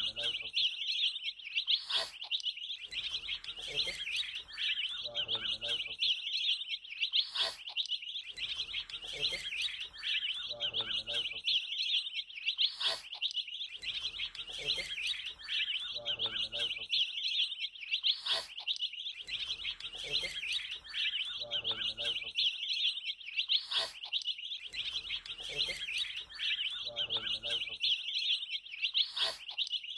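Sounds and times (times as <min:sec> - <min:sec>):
baby chicks peeping: 0:00.0 - 0:29.9.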